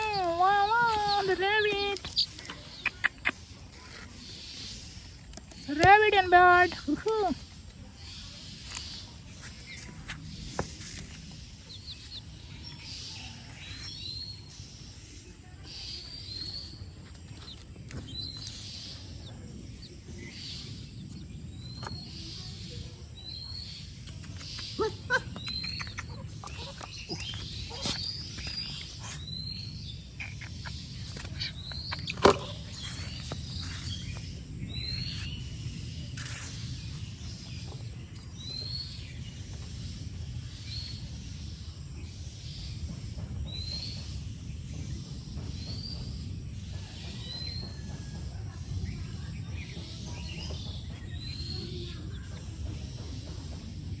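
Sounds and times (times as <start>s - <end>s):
small bird chirping: 0.0s - 48.1s
low outdoor rumble: 0.0s - 54.0s.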